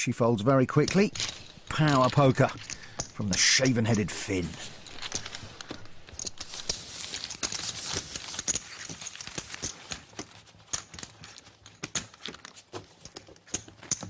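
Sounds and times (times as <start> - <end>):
poker chips clicking: 0.8 - 14.0.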